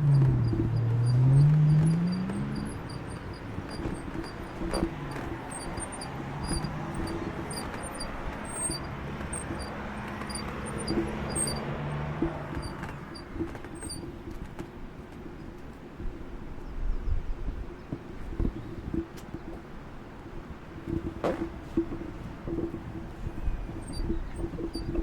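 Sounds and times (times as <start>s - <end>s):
road and wind noise: 0.0s - 25.0s.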